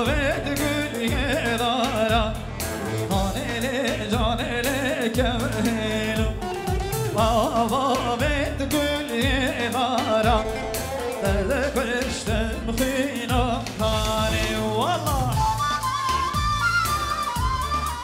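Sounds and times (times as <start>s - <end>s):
drum beat: 0.0s - 18.0s
ornamented folk melody: 0.0s - 18.0s.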